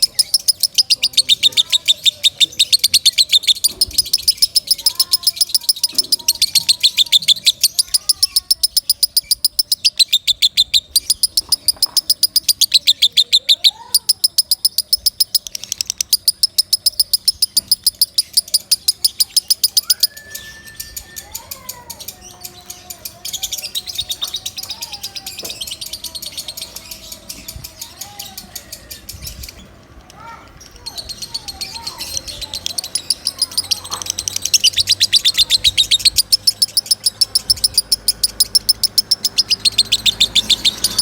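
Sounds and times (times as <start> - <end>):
birds whistling calls: 0.0 - 41.0
lovebird chattering: 0.0 - 41.0.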